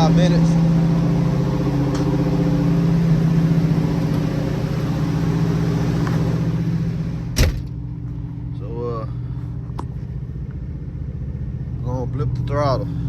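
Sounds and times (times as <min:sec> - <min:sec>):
car engine idling with lope: 0:00.0 - 0:13.0.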